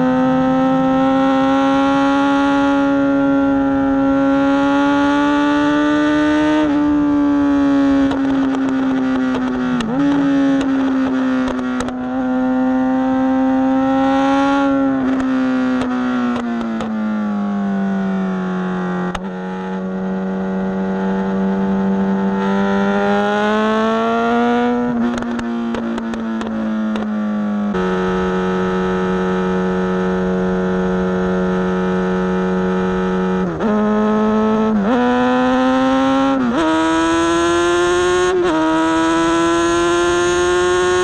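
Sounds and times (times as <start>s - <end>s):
motorcycle engine at high revs: 0.0s - 41.0s.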